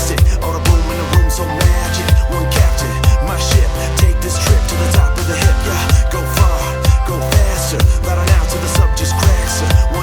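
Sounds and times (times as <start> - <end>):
bass: 0.0 - 10.0
kick drum: 0.0 - 10.0
synth melody: 0.0 - 10.0.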